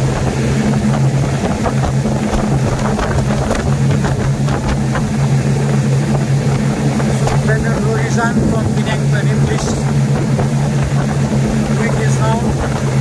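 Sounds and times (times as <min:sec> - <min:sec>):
boat engine drone: 0:00.0 - 0:13.0
rushing spray and wind: 0:00.0 - 0:13.0.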